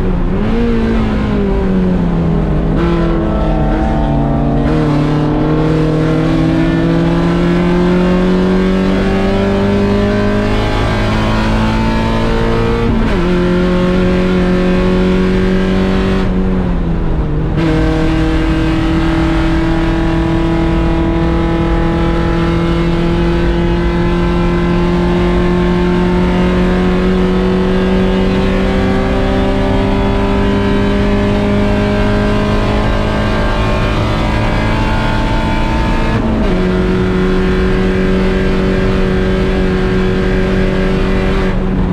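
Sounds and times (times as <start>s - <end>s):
race car engine at full throttle: 0.0s - 41.9s.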